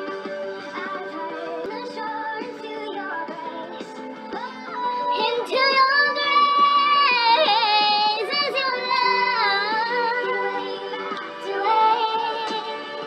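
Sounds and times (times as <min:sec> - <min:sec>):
backing track: 0:00.0 - 0:13.0
woman singing a ballad: 0:00.7 - 0:13.0.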